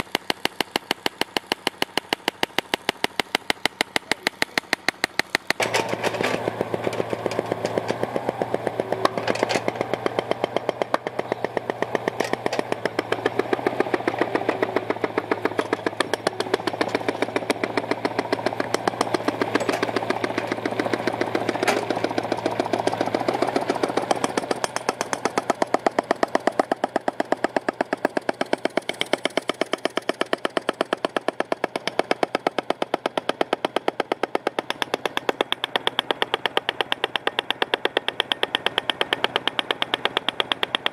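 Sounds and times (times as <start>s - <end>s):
engine drone: 0.0s - 40.9s
pneumatic hammer blows: 0.0s - 40.9s.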